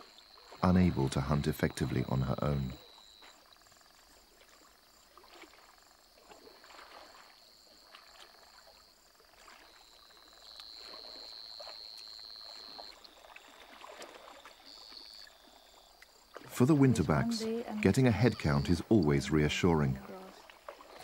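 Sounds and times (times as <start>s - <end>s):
water sloshing and splashing: 0.0s - 21.0s.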